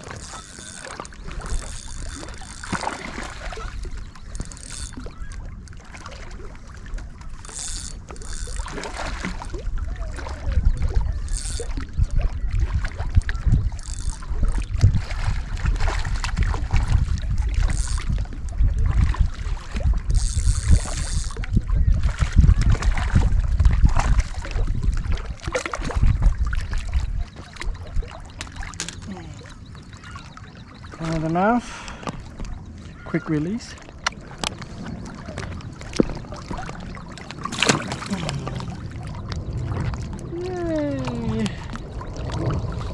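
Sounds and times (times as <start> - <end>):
low rumble on microphone: 0.0 - 29.8, 34.6 - 42.9
water splashing: 0.0 - 42.9.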